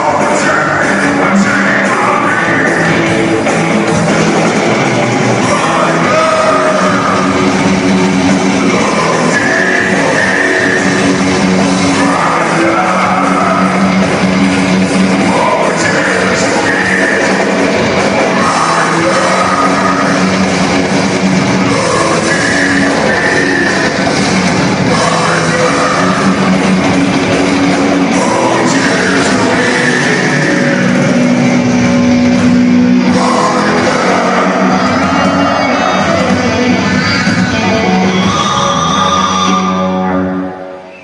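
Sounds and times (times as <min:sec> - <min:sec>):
metal vocals: 0:00.0 - 0:40.9
death metal band playing live: 0:00.0 - 0:41.0
distorted guitars: 0:00.0 - 0:41.0
drums: 0:00.0 - 0:41.0.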